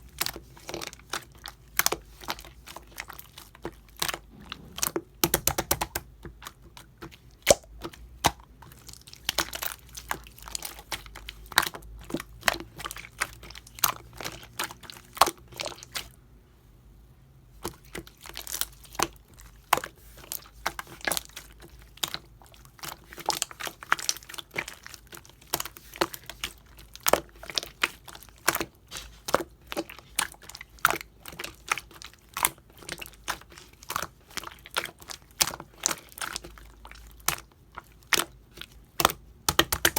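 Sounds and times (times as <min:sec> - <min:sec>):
slime clicking and crackling: 0:00.1 - 0:16.1, 0:17.6 - 0:39.9.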